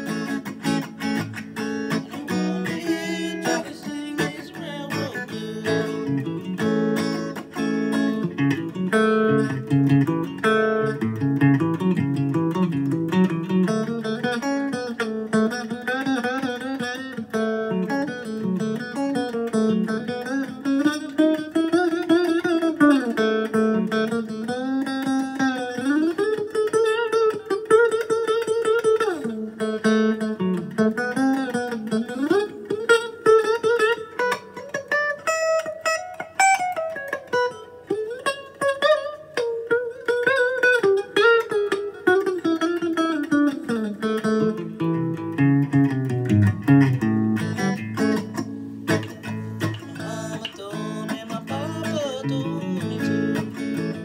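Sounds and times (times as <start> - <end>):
electric guitar lead line: 0.0 - 54.0.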